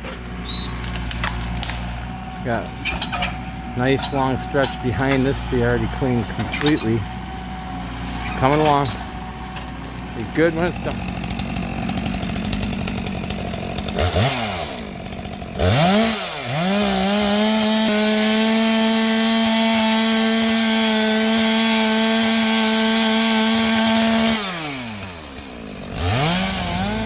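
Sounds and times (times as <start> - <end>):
chainsaw revving and cutting wood: 0.0 - 27.0.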